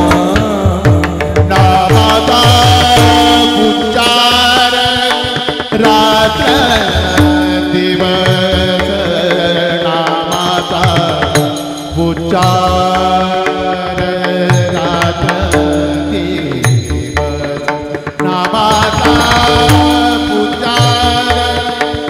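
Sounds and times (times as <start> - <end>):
hand drum strokes: 0.0 - 22.0.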